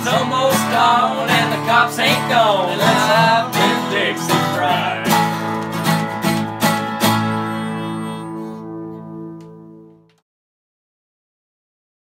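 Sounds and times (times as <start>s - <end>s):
acoustic guitars strumming: 0.0s - 10.2s.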